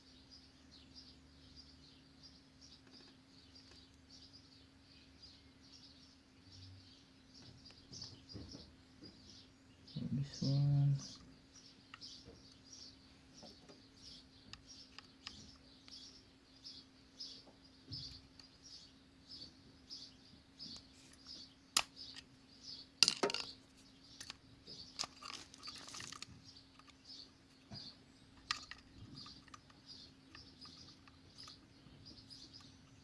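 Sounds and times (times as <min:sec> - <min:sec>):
small bird chirping: 0:00.0 - 0:33.0.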